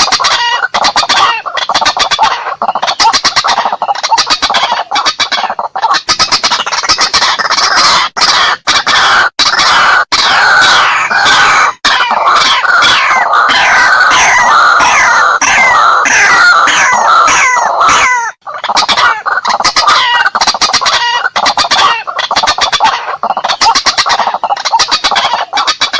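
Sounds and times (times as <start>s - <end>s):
waterhen calling: 0.0s - 25.9s.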